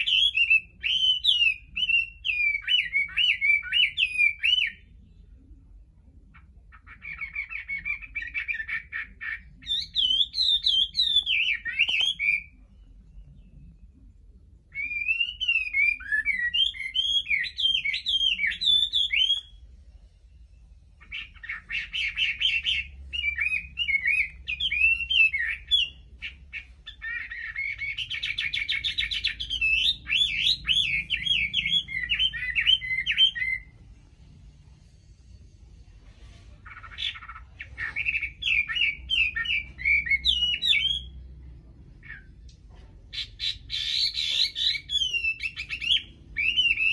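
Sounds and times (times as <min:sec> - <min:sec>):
bird singing chattering and whistles: 0:00.0 - 0:04.9, 0:06.7 - 0:13.7, 0:14.7 - 0:19.6, 0:21.0 - 0:33.8, 0:36.6 - 0:41.4, 0:43.1 - 0:46.9.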